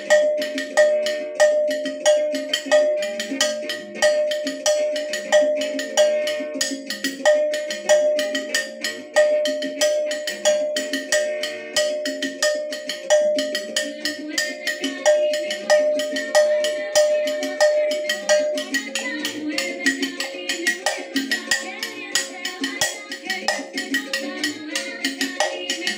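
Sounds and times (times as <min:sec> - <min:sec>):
cowbell struck with drumstick: 0:00.0 - 0:25.9
music playing: 0:00.0 - 0:25.9.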